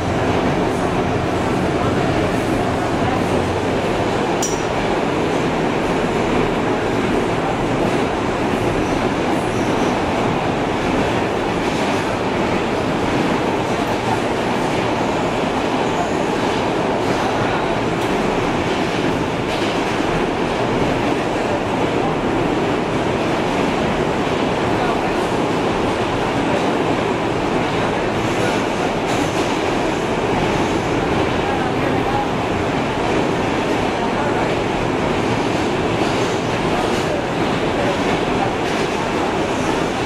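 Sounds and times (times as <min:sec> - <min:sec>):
subway wheels rumbling on rails: 0:00.0 - 0:40.0.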